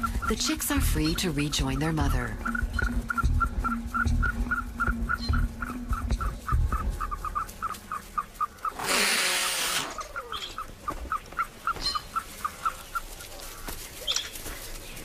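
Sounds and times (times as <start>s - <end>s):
bird peeping rapidly: 0.0s - 15.0s.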